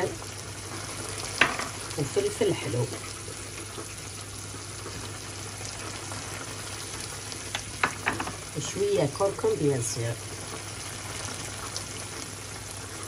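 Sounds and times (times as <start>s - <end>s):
sauce sizzling in a frying pan: 0.0s - 13.0s.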